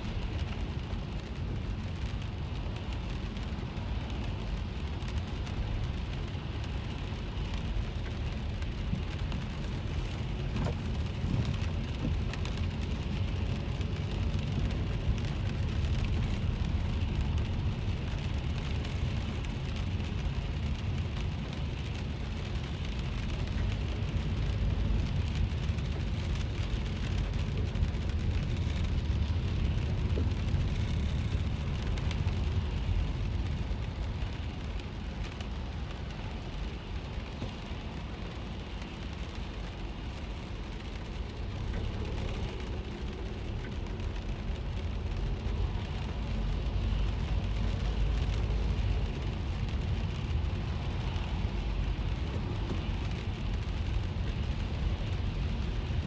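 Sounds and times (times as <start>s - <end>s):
car rumbling on the road: 0.0s - 56.0s
rain pattering on a car: 0.0s - 56.0s.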